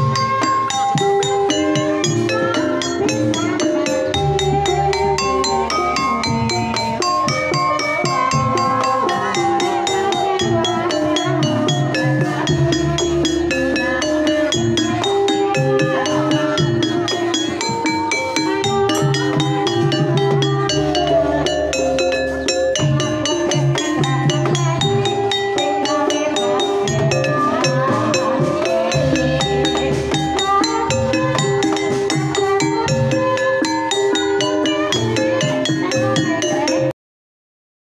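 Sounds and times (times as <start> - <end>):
gamelan playing: 0.0 - 36.9
hand drum beats: 0.0 - 36.9
metallophones ringing: 0.0 - 36.9
person singing: 0.0 - 37.0.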